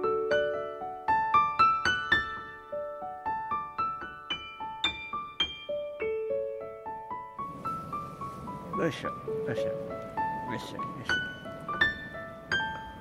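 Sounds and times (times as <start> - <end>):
piano single notes: 0.0 - 13.0.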